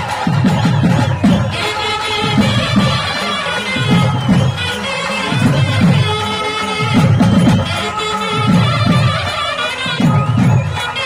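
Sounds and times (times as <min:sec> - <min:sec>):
barrel drums beaten: 0:00.0 - 0:11.0
held melody line: 0:00.0 - 0:11.0.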